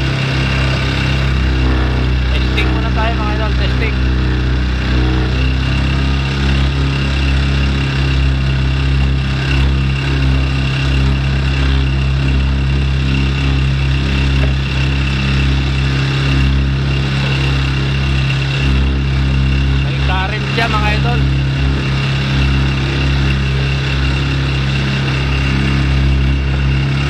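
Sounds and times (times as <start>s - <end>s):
small outboard motor running: 0.0s - 27.0s.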